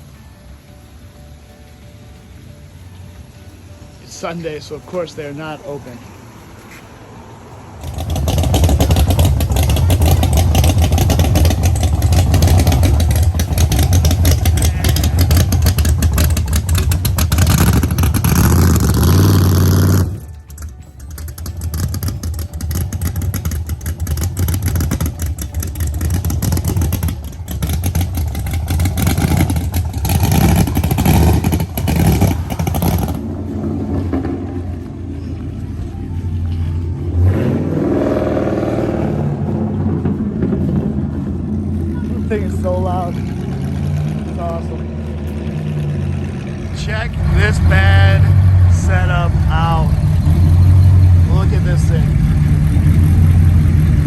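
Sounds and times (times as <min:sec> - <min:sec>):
car engine revving: 0:07.4 - 0:54.0.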